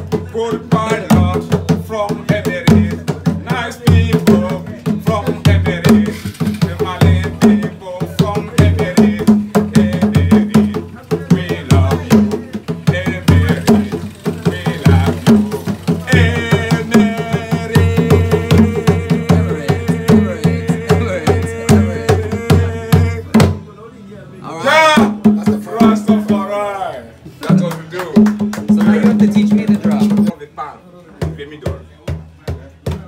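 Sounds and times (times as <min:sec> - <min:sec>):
man singing: 0:00.0 - 0:23.6, 0:24.5 - 0:26.8, 0:28.6 - 0:30.3
hand drums playing: 0:00.0 - 0:23.7, 0:24.9 - 0:26.6, 0:27.3 - 0:30.3, 0:31.2 - 0:33.0.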